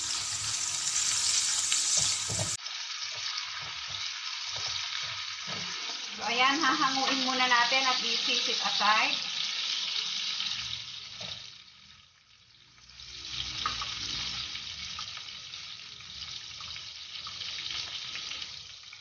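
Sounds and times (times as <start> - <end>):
oil sizzling in a wok: 0.0 - 19.0.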